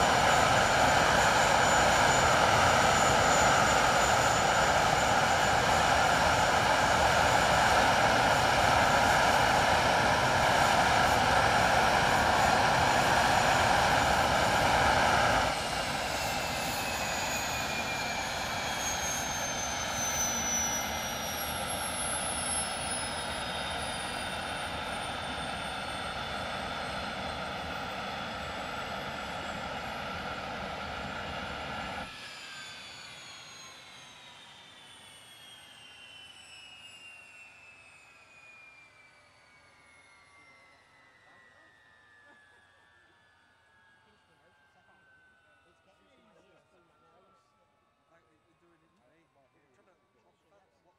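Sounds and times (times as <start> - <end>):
jet engine roar: 0.0 - 42.7
turbines winding down whine: 0.0 - 47.4.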